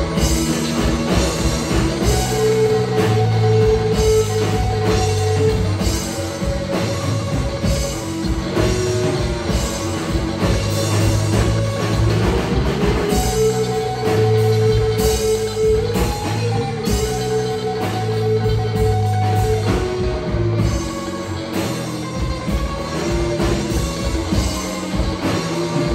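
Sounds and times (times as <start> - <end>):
drum kit: 0.0 - 25.9
electric bass: 0.0 - 25.9
electric guitar solo: 0.0 - 25.9.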